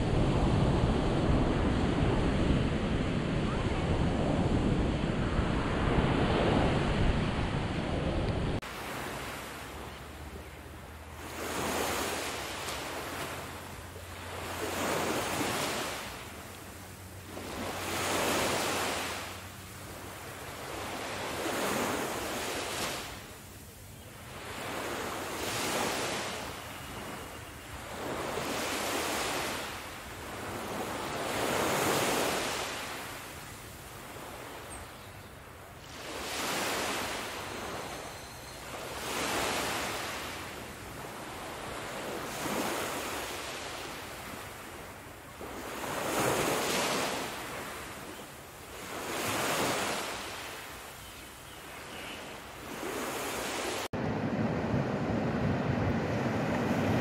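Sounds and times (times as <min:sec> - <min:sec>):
sea waves washing onto beach: 0:00.0 - 0:34.6, 0:38.6 - 0:51.0, 0:51.9 - 0:57.0.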